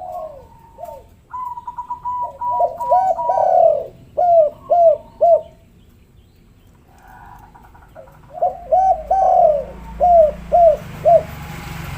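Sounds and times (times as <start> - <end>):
dove cooing: 0.0 - 5.6, 6.9 - 11.4.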